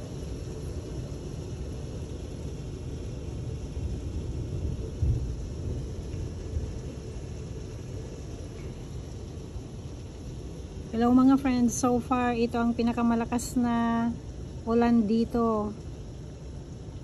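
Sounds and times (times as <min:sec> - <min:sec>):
heavy rain falling: 0:00.0 - 0:17.0
low rumble of thunder: 0:00.0 - 0:17.0.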